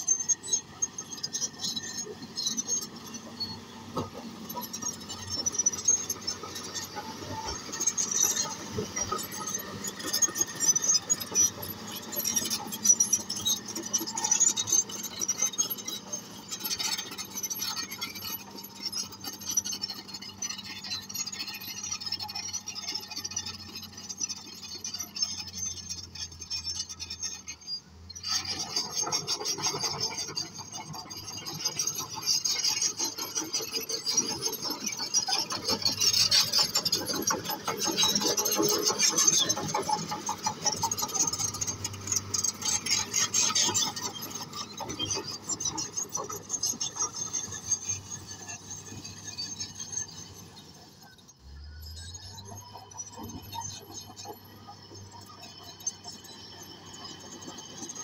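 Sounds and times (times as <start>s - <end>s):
diesel engine hum: 0.0s - 58.0s
steel tracks clattering and squealing: 0.0s - 58.0s.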